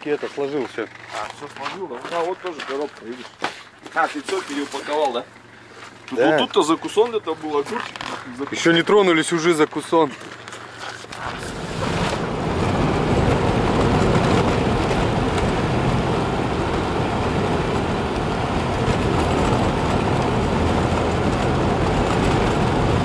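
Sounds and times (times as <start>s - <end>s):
van engine and tyre noise: 0.0s - 23.0s.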